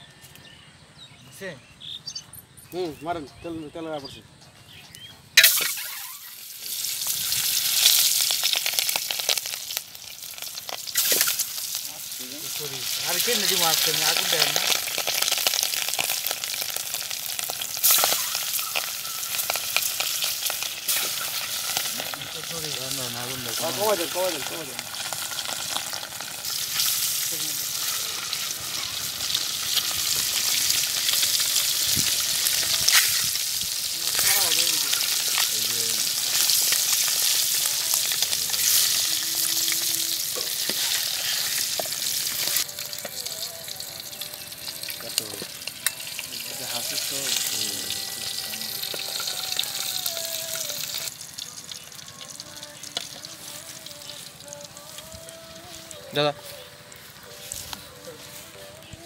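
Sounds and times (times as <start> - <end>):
eggs sizzling in hot oil: 5.4 - 59.0.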